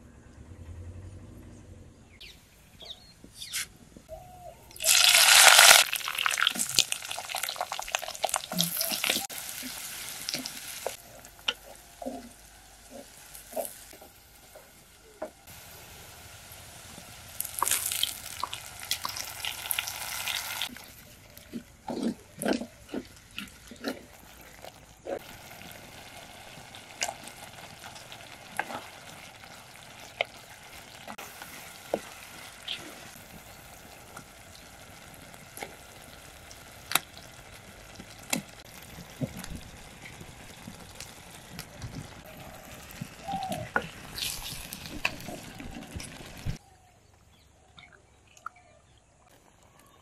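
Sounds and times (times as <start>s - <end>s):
onion sizzling in hot oil: 4.8s - 21.4s, 23.0s - 46.6s.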